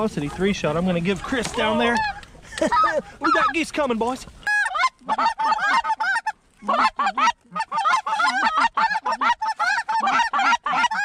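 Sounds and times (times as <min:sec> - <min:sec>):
goose honking and clucking: 0:00.0 - 0:11.0.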